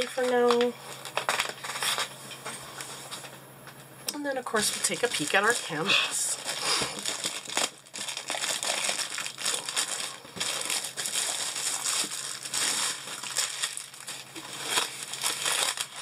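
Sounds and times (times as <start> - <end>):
plastic wrap crinkling: 0.0 - 3.3, 4.4 - 16.0.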